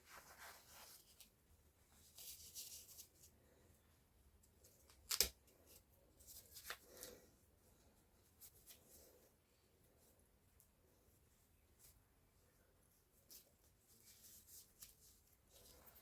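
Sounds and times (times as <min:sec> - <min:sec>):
scratchy rustling of hair: 0:00.0 - 0:03.9, 0:04.5 - 0:16.0.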